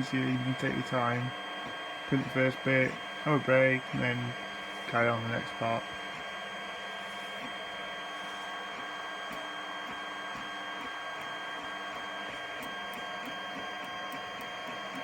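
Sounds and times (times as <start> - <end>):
steady electrical hum: 0.0 - 15.0
stepper motors whining: 0.0 - 15.0.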